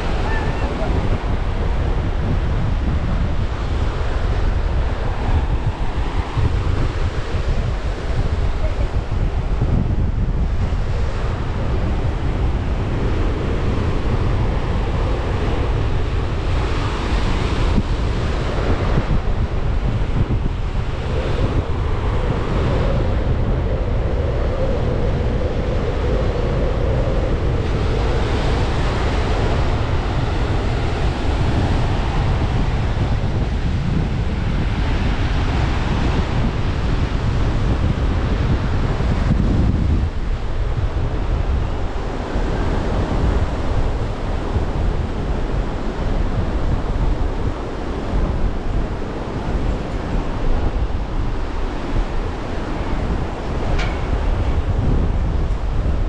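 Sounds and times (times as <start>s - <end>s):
ocean surf washing onto beach: 0.0s - 56.0s
wind buffeting microphone: 0.0s - 56.0s.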